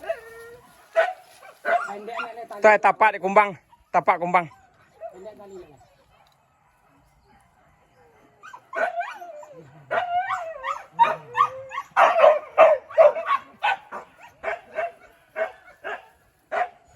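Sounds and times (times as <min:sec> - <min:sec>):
dogs yelping and whining: 0:00.0 - 0:02.4, 0:03.6 - 0:06.1, 0:07.8 - 0:16.9
dogs barking: 0:00.0 - 0:02.7, 0:03.7 - 0:16.9.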